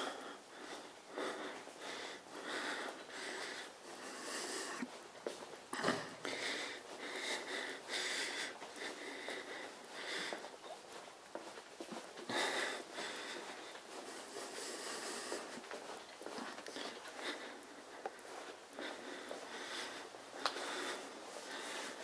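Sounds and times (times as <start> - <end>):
soft footsteps on hard floor: 0.0 - 22.0.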